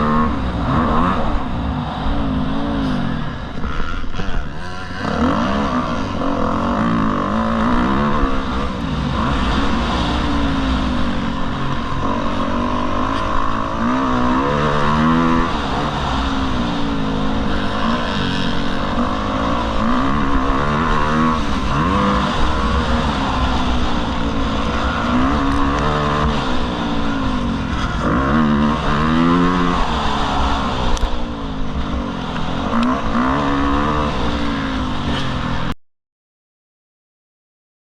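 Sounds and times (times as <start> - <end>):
motocross bike engine revving: 0.0 - 35.8.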